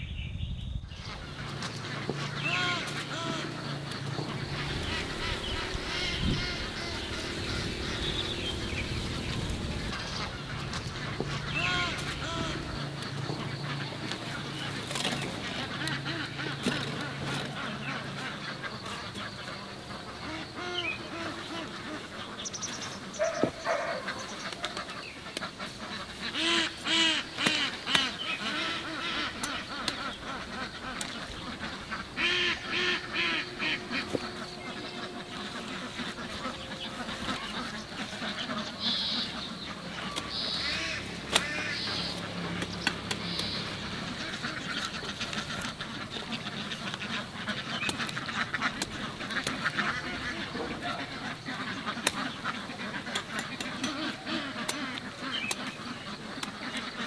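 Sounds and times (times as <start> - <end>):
ducks quacking: 0.8 - 57.0.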